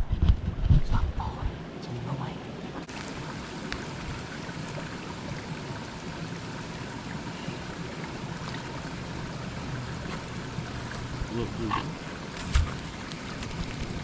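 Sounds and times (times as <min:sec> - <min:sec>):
creek water rushing: 0:01.6 - 0:14.0.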